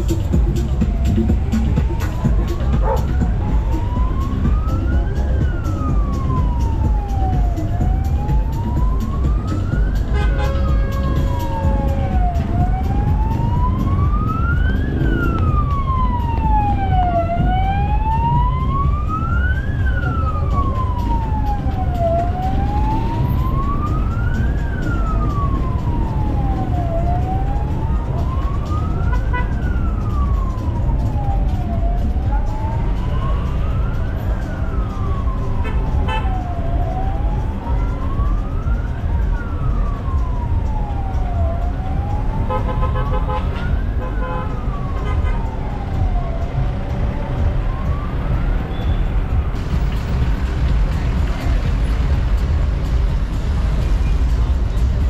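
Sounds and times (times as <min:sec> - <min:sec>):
wailing siren: 0:00.0 - 0:52.6
rumble of slow car traffic: 0:00.0 - 0:55.0
fainter second siren: 0:01.0 - 0:49.4.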